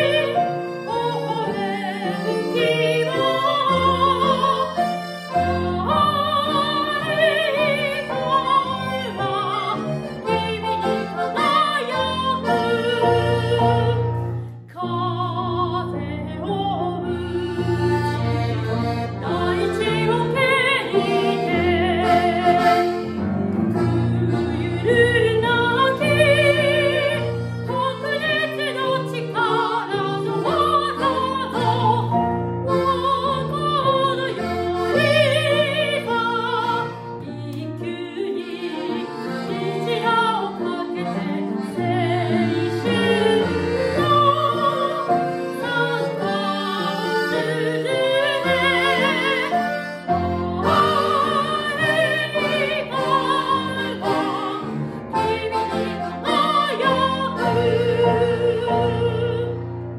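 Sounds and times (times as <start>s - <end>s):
grand piano: 0.0s - 59.9s
piano accordion: 0.0s - 59.9s
soprano singing: 0.0s - 59.9s.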